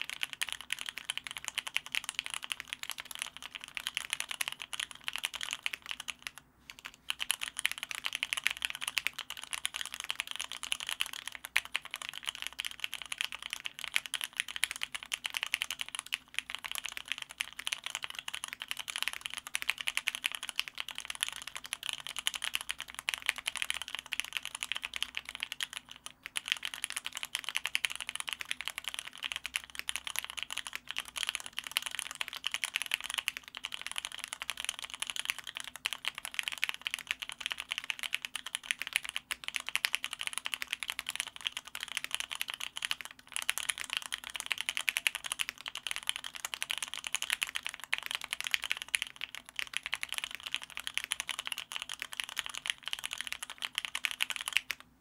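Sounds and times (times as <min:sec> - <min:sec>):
fast typing on mechanical keyboard: 0:00.0 - 0:54.8.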